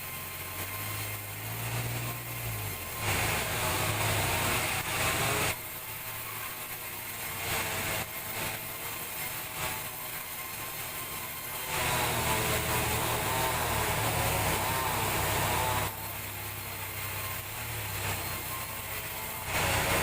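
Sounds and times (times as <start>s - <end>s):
sawmill machinery hum: 0.0s - 20.0s
wavering machine whine: 0.0s - 20.0s.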